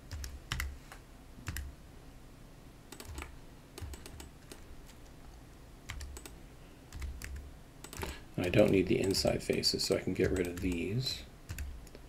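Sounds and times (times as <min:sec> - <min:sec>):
computer keyboard keys clicking: 0:00.0 - 0:01.7, 0:02.9 - 0:05.1, 0:05.9 - 0:12.0.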